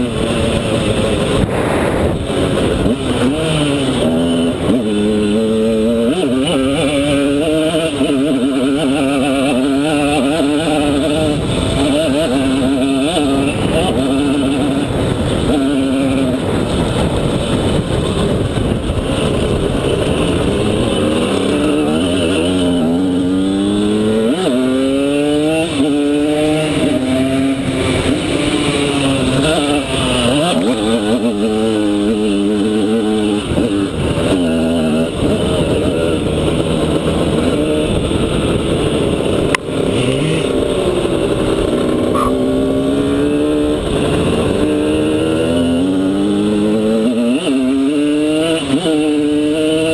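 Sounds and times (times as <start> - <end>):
two-stroke motorbike engine revving: 0.0 - 49.9.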